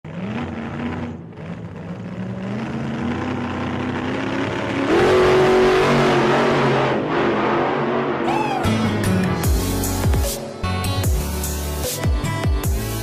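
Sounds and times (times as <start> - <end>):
engine running and revving: 0.0 - 13.0.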